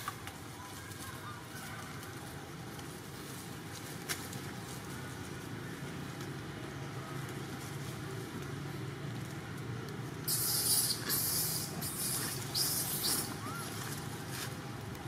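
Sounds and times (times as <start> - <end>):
distant traffic rumble: 0.0 - 15.0
rustling hiss: 1.0 - 15.0.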